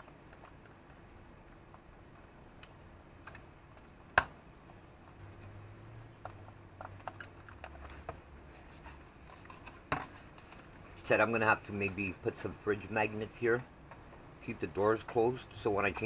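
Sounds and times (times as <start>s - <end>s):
hands handling wires and plastic: 0.0s - 11.4s, 13.2s - 16.0s.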